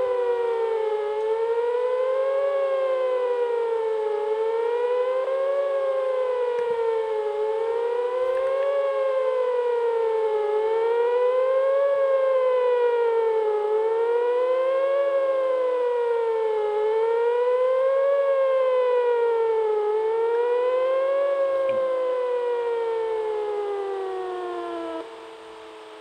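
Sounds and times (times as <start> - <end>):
warning siren wailing: 0.0 - 26.0.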